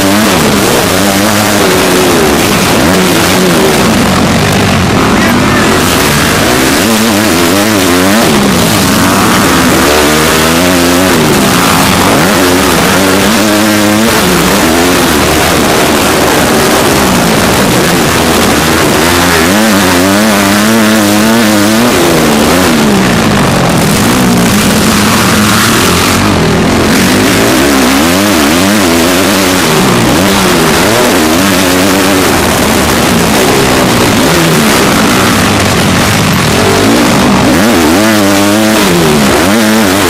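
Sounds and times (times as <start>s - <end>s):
constant rushing noise: 0.0s - 40.0s
motocross bike engine revving: 0.0s - 40.0s.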